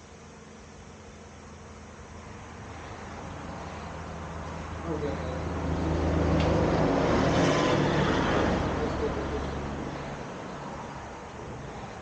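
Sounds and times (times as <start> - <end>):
vehicle passing by: 2.3 - 12.0.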